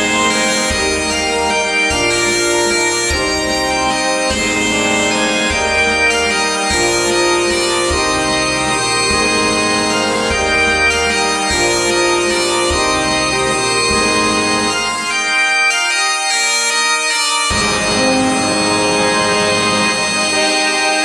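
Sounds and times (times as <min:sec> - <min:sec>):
bagpipes playing a melody: 0:00.0 - 0:21.0
concert band: 0:00.0 - 0:21.0.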